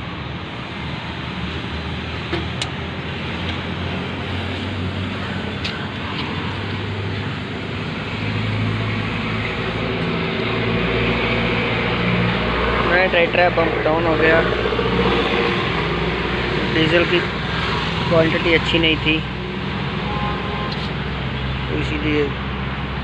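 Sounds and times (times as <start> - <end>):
engine humming: 0.0 - 21.7.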